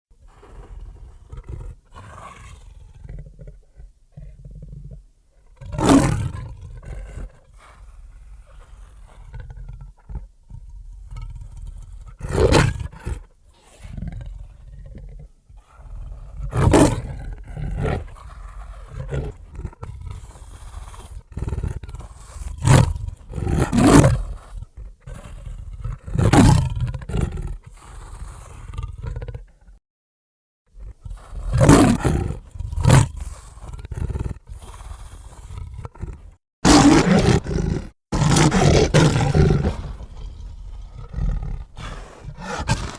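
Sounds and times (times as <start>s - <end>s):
leopard roaring: 0.3s - 29.6s, 30.8s - 42.9s.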